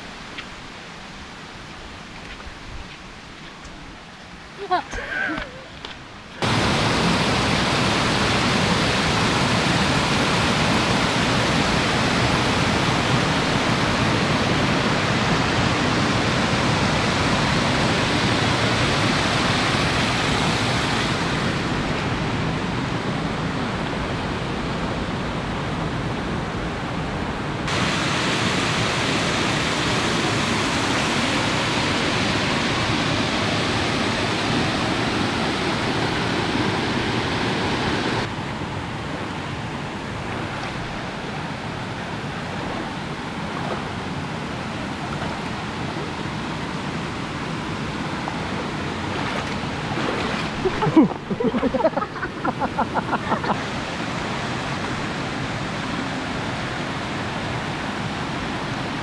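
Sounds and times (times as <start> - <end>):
fast stream running over rocks: 0.0 - 38.3, 40.0 - 59.0
water rushing over cascades: 0.0 - 59.0.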